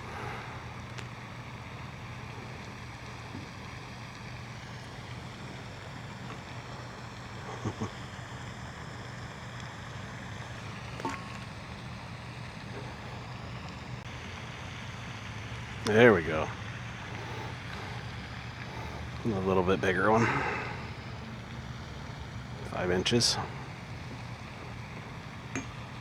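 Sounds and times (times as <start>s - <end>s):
steady low background noise: 0.0s - 26.0s.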